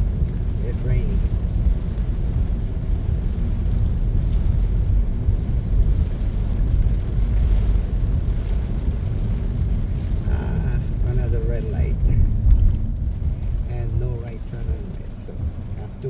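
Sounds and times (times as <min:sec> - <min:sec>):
faint rain hiss: 0:00.0 - 0:16.0
road and engine rumble: 0:00.0 - 0:16.0.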